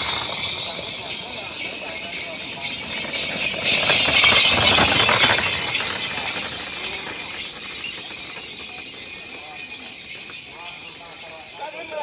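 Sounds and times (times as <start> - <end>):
harness bells jangling: 0.0 - 12.0
hooves and cart clattering: 0.0 - 12.0.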